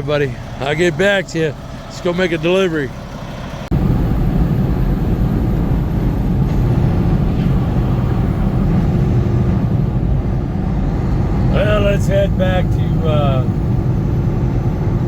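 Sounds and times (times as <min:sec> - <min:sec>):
road noise: 0:00.0 - 0:15.0
truck engine drone: 0:00.0 - 0:15.0.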